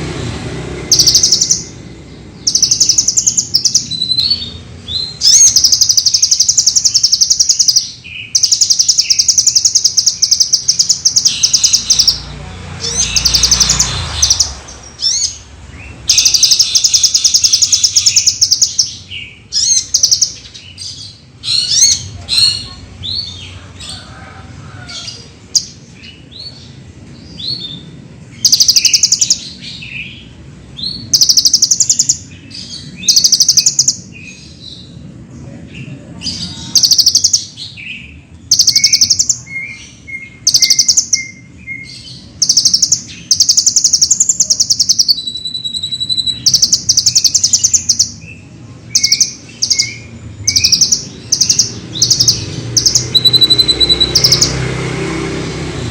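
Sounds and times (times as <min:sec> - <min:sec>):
sunbird singing buzzy trills: 0:00.0 - 0:24.1, 0:25.0 - 0:55.9.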